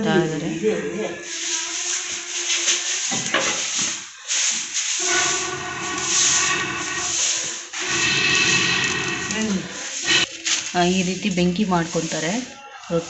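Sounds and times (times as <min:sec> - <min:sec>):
wood fire hissing: 0:00.0 - 0:13.0.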